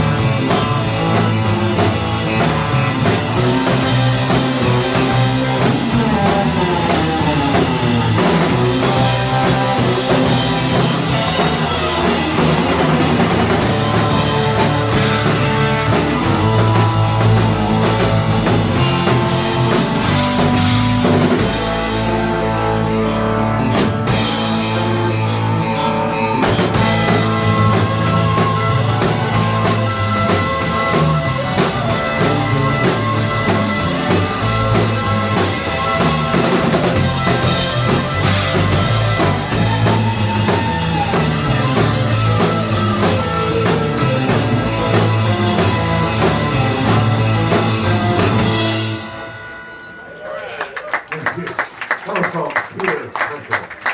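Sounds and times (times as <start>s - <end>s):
electric guitar: 0.0s - 51.7s
surf rock band playing: 0.0s - 53.9s.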